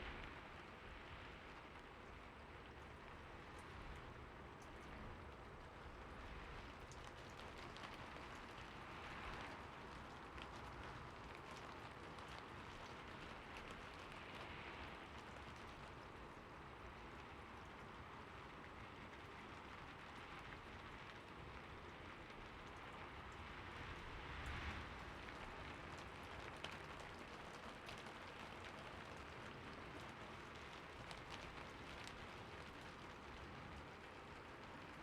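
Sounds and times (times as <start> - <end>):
heavy rain falling: 5.7 - 35.0.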